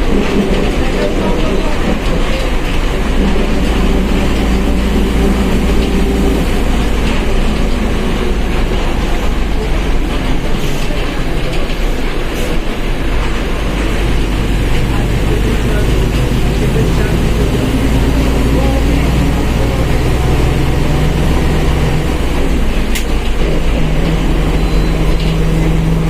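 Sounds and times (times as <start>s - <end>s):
bus engine low rumble: 0.0s - 26.0s.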